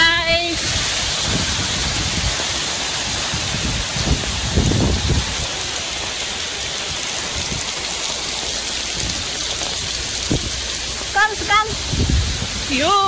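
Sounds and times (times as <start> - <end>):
heavy rain pouring: 0.0 - 13.0
wind gusting on microphone: 0.0 - 13.0.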